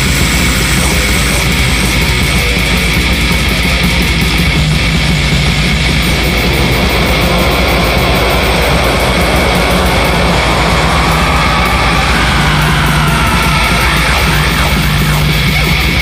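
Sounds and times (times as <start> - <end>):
death metal music: 0.0 - 16.0.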